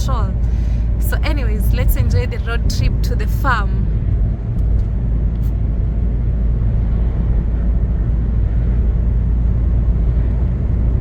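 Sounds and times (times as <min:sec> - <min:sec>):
car driving on road: 0:00.0 - 0:11.0.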